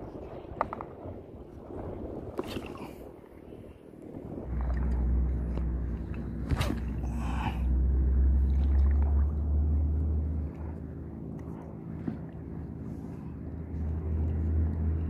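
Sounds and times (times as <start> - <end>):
boat engine droning: 2.7 - 15.0.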